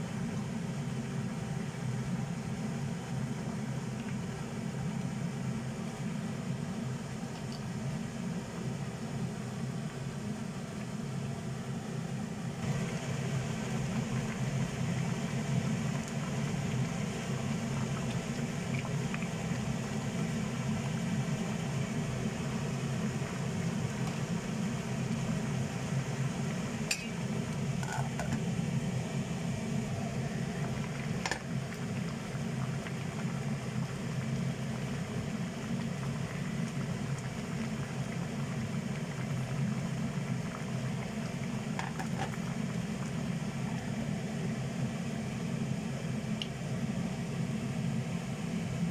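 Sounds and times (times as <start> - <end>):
pot boiling and bubbling: 0.0 - 48.9.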